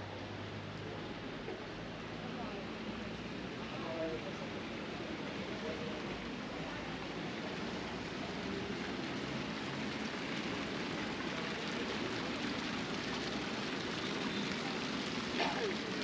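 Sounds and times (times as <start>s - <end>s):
city street ambience: 0.0s - 16.0s.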